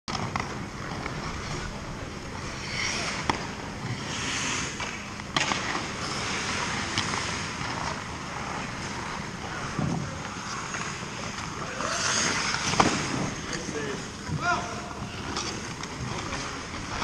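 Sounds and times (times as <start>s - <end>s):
skate blades scraping on ice: 0.1s - 17.0s.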